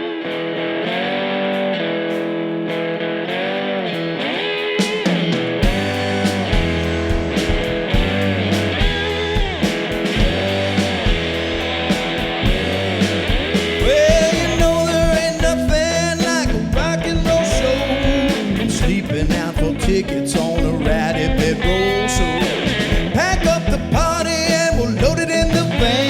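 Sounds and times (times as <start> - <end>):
bass guitar: 0.0 - 26.0
electric guitar with bent notes: 0.0 - 26.0
steady drum beat: 4.8 - 26.0.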